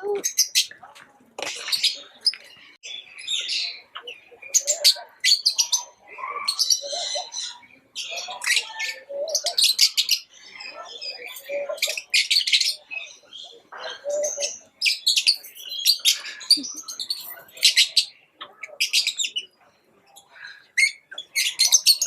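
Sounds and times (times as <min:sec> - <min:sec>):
lovebirds chirping and trilling: 0:00.0 - 0:22.0.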